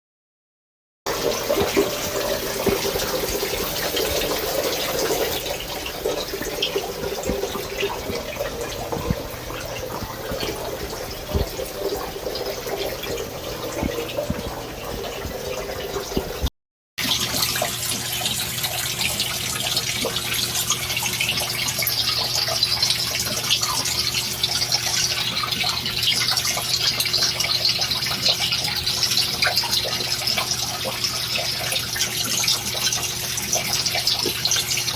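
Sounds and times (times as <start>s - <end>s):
shower water running: 1.1s - 34.9s.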